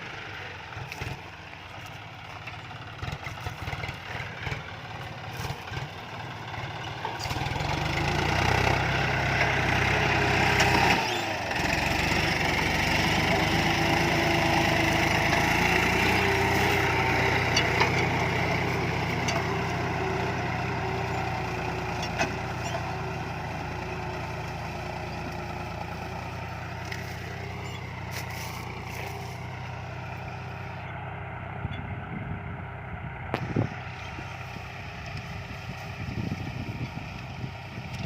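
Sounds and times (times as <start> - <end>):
tractor diesel engine working: 0.0 - 38.0.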